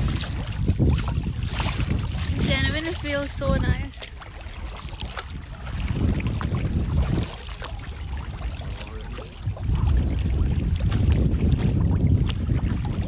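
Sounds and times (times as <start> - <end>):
water lapping and splashing: 0.0 - 13.0
wind buffeting microphone: 0.0 - 13.0.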